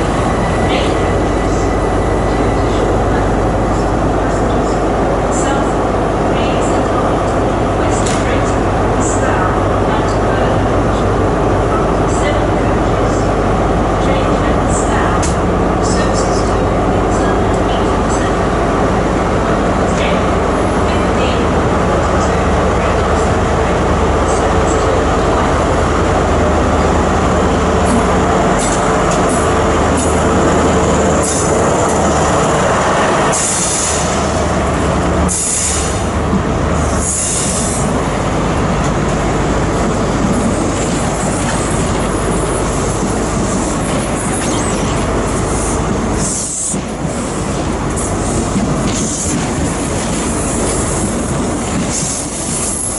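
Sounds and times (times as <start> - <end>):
train running on track: 0.0 - 52.9.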